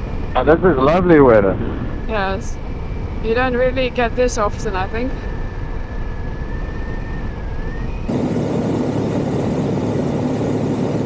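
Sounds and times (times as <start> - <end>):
faint steady whine: 0.0 - 11.0
motorcycle engine drone: 0.0 - 11.0
wind rush on camera: 0.0 - 11.0.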